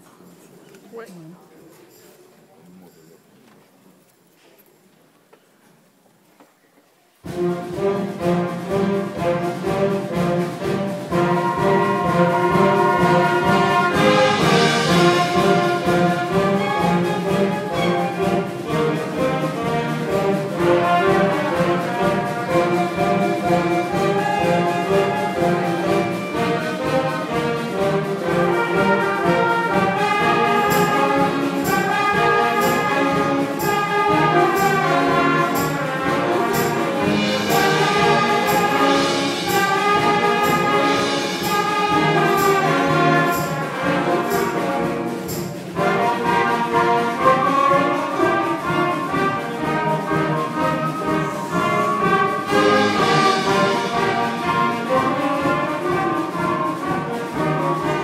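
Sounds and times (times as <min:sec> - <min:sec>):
concert band playing: 0:07.2 - 0:58.0
percussion hits: 0:07.2 - 0:58.0.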